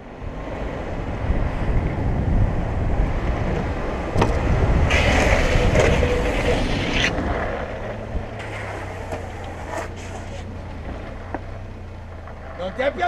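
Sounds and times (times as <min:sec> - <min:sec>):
low rolling rumble: 0:00.3 - 0:13.0
skateboard wheels sliding on asphalt: 0:00.4 - 0:13.0.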